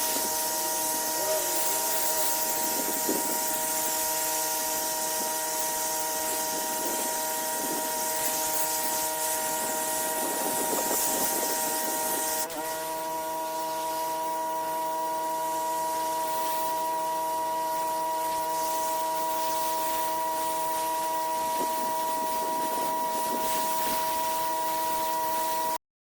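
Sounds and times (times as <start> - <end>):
pressure washer whine: 0.0 - 25.8
water spray hiss: 0.0 - 25.8.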